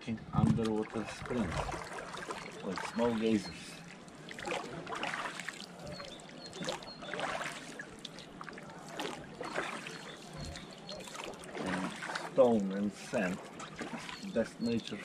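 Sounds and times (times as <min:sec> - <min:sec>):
oar splashing through water: 0:00.5 - 0:15.0.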